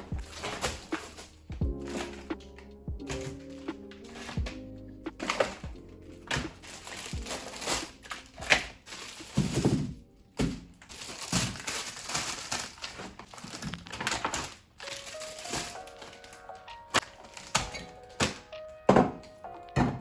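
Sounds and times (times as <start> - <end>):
packaging rustling and crinkling: 0.0 - 4.5, 5.1 - 18.7.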